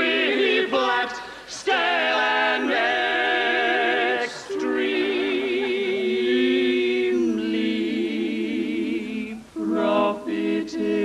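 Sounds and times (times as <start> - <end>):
women singing in close harmony: 0.0 - 11.0.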